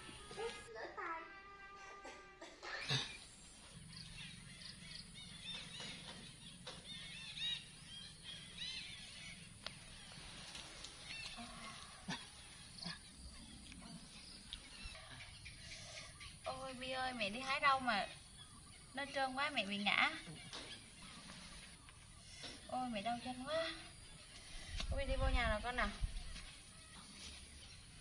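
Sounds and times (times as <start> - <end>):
small birds chirping: 2.7 - 28.0.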